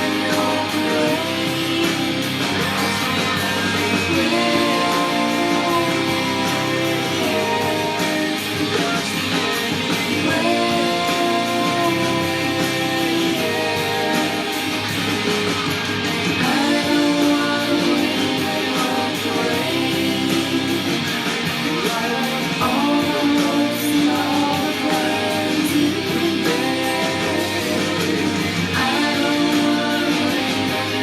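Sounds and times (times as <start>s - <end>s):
alternative rock song: 0.0s - 31.0s
electric guitar: 0.0s - 31.0s
person singing: 0.0s - 31.0s.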